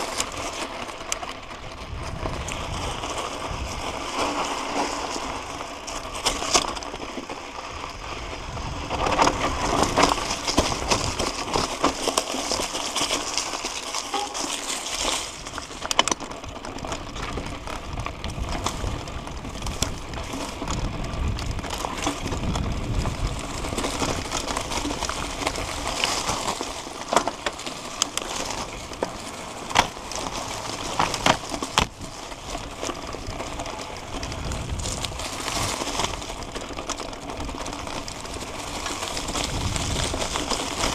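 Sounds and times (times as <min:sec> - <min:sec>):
bike rattling: 0:00.0 - 0:40.9
bike tyres crunching on grit: 0:00.0 - 0:40.9.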